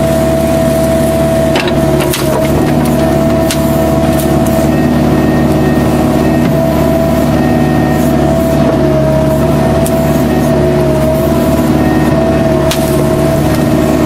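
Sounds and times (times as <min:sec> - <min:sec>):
excavator diesel engine running: 0:00.0 - 0:14.0
high hydraulic whine: 0:00.0 - 0:14.0.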